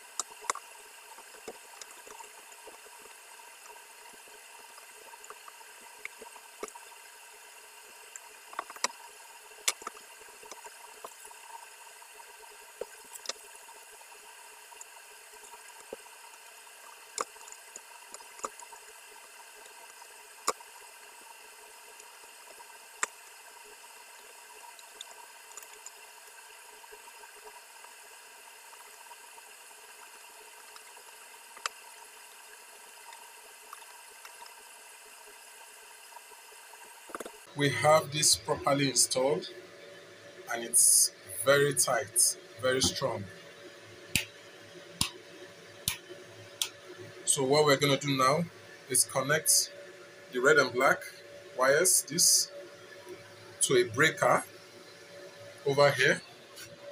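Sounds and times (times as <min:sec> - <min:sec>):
faint hiss: 0:00.0 - 0:56.9.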